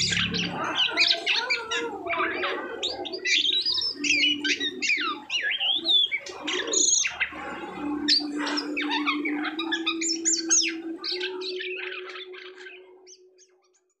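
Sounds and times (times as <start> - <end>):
starling singing: 0.0 - 13.6.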